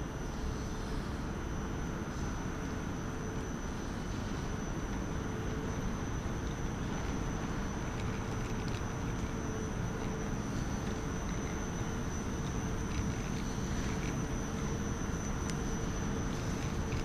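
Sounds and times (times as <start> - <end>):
electric train idling hum: 0.0 - 17.0
high-pitched whine: 0.0 - 17.0.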